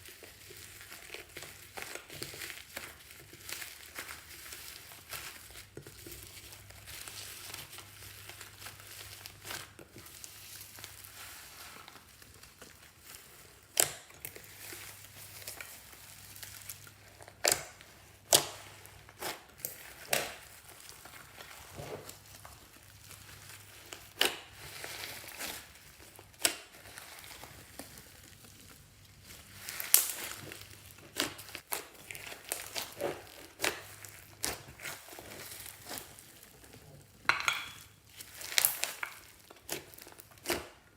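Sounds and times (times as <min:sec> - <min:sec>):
slime squished by hand: 0:00.1 - 0:37.2, 0:38.0 - 0:40.9.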